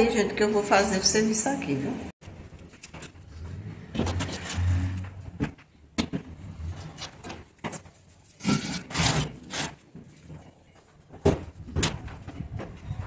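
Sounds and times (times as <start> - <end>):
rustling scraping: 2.2 - 13.0.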